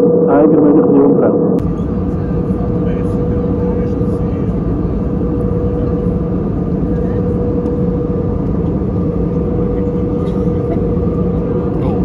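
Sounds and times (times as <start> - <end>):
airplane cabin airflow and engine drone: 0.0 - 12.0
constant low hum: 0.0 - 12.0.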